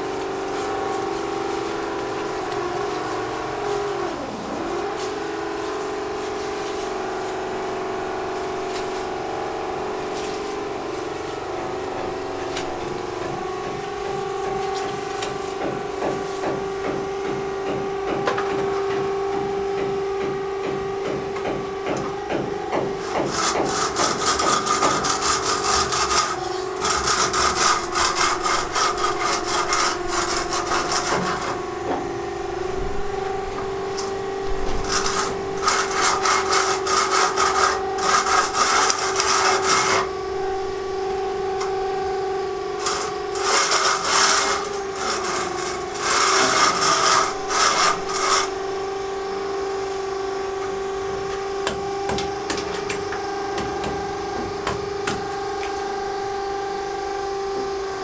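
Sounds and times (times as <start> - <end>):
rasping scraping strokes on wood: 0.0 - 49.1, 50.6 - 56.4
steady machine hum: 0.0 - 56.6.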